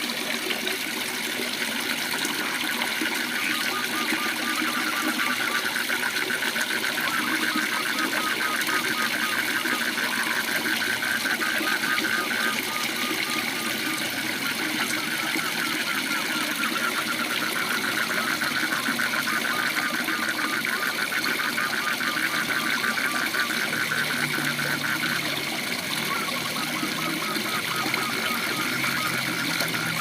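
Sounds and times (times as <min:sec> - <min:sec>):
frogs calling: 0:01.8 - 0:30.0.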